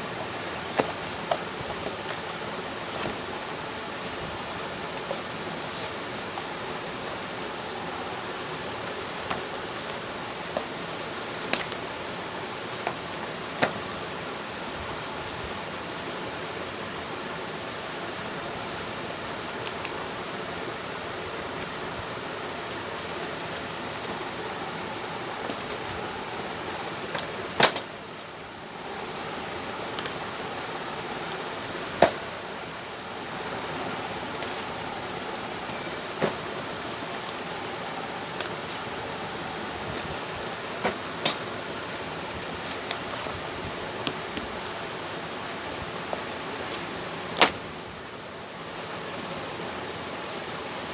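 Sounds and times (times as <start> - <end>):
background hiss: 0.0 - 50.9.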